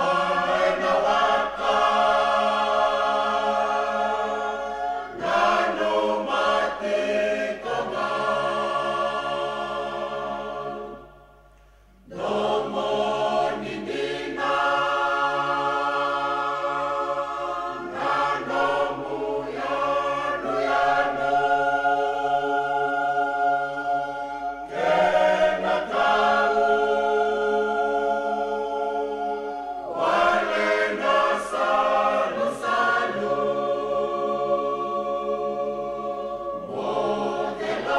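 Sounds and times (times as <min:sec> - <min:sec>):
choir singing held chords: 0:00.0 - 0:37.9.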